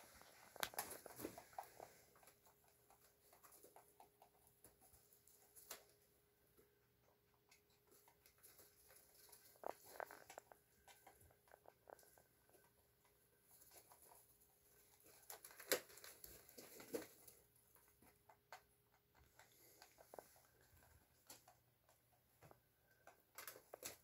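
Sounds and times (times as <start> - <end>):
rabbits crunching pellets: 0.0 - 24.0.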